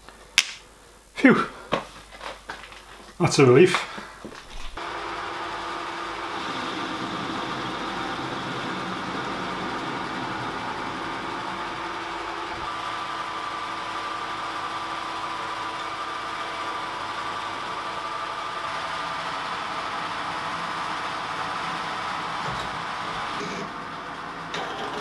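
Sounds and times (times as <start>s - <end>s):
machine tool motor running: 4.8s - 25.0s.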